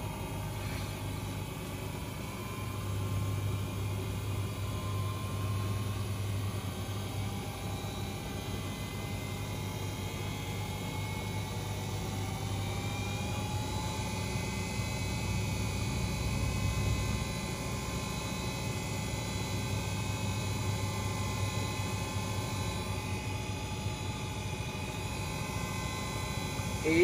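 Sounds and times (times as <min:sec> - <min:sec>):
washing machine motor whine: 0:00.0 - 0:27.0.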